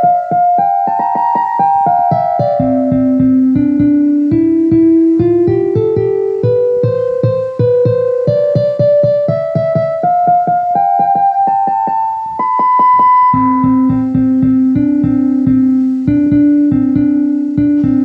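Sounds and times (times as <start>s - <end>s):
instrumental keyboard music: 0.0s - 18.0s.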